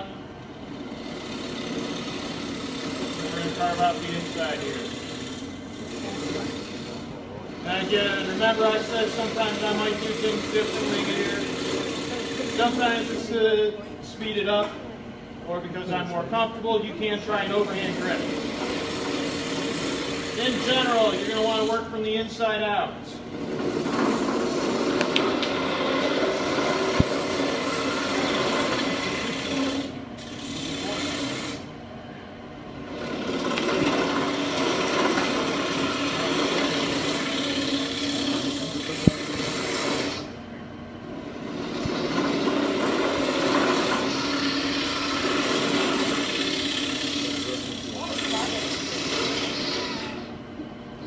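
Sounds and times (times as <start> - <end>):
wood lathe running: 0.0 - 13.8, 16.6 - 22.2, 23.1 - 31.7, 32.7 - 40.4, 41.0 - 50.4
lathe tool scraping wood: 0.7 - 13.4, 17.1 - 21.9, 23.2 - 31.7, 32.8 - 40.4, 41.2 - 50.3.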